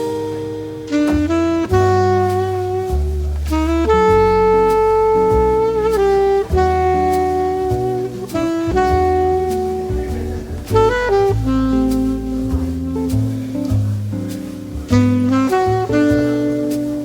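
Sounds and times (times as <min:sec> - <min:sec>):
bass: 0:00.0 - 0:17.0
saxophone playing slow melody: 0:00.0 - 0:17.0.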